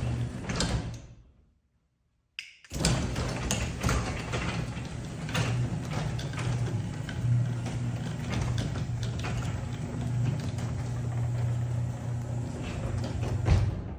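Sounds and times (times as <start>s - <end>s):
garage door rattling on tracks: 0.0s - 1.1s, 2.8s - 13.9s
garage door opener motor hum: 0.0s - 1.2s, 2.7s - 13.9s.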